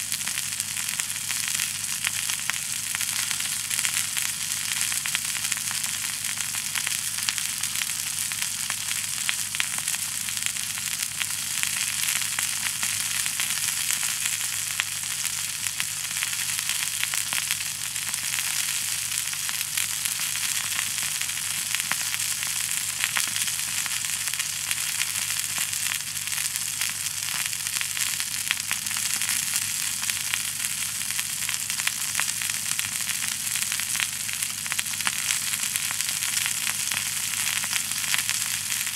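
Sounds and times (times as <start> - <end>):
food sizzling in a skillet: 0.0 - 38.9.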